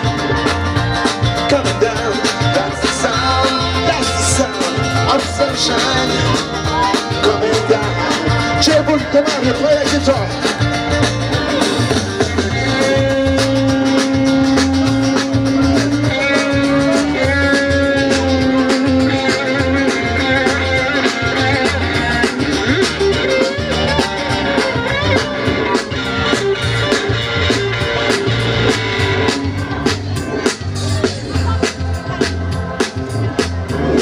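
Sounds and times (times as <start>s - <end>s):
bass: 0.0s - 34.0s
drums: 0.0s - 34.0s.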